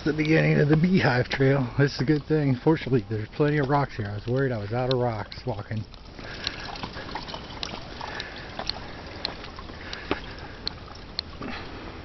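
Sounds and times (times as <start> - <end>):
footsteps on rocky trail: 0.0 - 11.2
steady hiss: 0.0 - 12.0.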